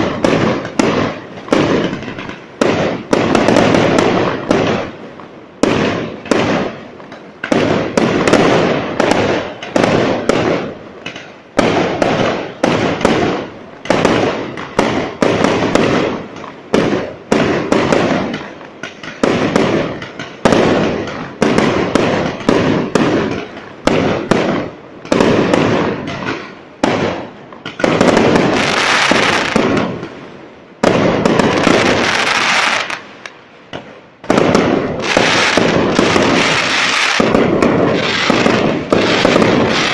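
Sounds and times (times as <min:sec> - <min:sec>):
fireworks bangs: 0:00.0 - 0:39.9
fireworks dense crackling: 0:00.0 - 0:39.9.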